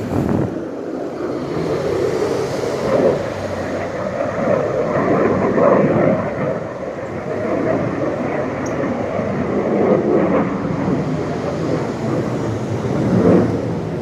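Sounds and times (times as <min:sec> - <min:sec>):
rumbling roar from sky: 0:00.0 - 0:14.0.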